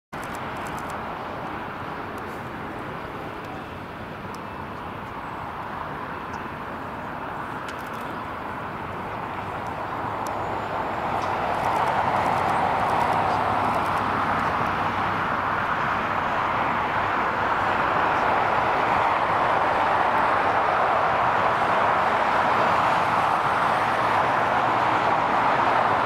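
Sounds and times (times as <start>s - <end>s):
jet engines whining: 0.2s - 25.6s.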